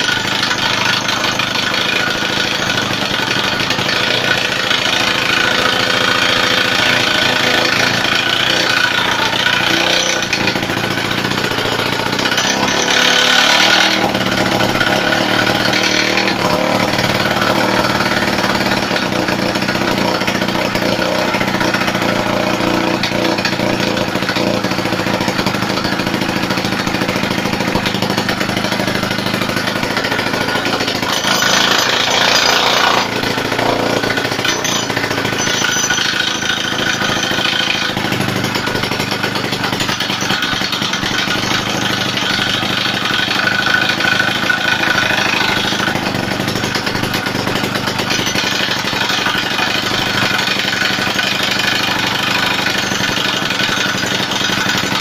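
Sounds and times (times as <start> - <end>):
rock drill engine hammering: 0.0 - 55.0.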